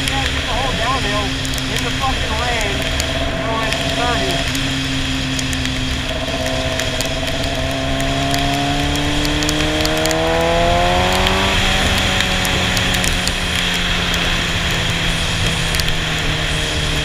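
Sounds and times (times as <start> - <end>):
motorcycle engine revving: 0.0 - 17.0
wind and road rush: 0.0 - 17.0.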